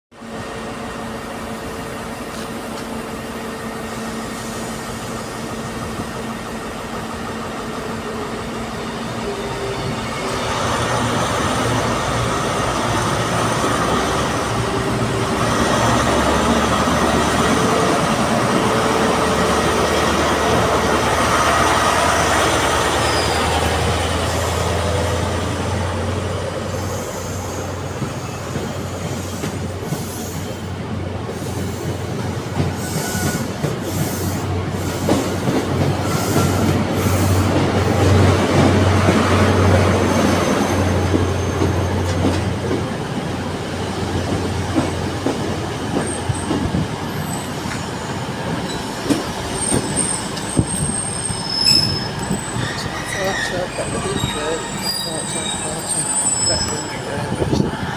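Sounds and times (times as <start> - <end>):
train running along platform: 0.1 - 57.9
idling train engine hum: 0.2 - 57.9.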